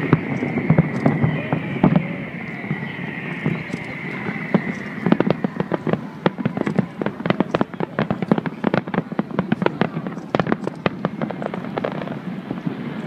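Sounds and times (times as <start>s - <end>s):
firework bangs and crackles: 0.0s - 13.0s
firework whistle: 0.0s - 13.0s.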